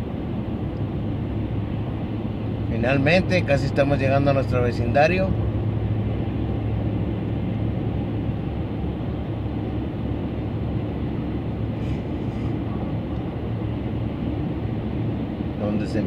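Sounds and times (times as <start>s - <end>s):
car road noise from inside: 0.0s - 16.0s.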